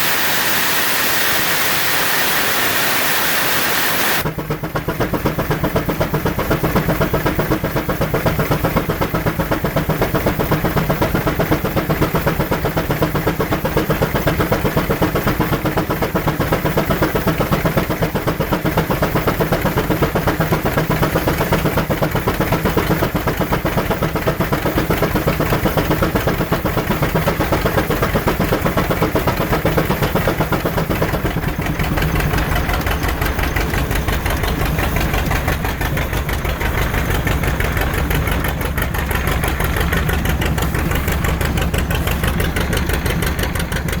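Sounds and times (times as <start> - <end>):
steam engine running: 0.0 - 44.0.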